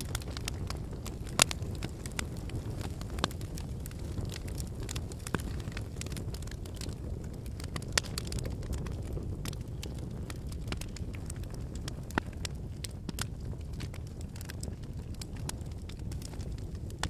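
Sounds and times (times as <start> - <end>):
fire crackling and popping: 0.0 - 17.0
low rush of flames: 0.0 - 17.0.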